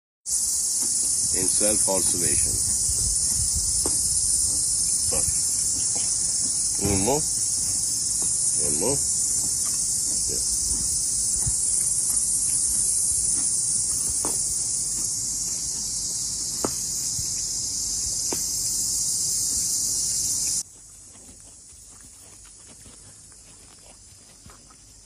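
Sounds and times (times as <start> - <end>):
insects droning: 0.3 - 25.0.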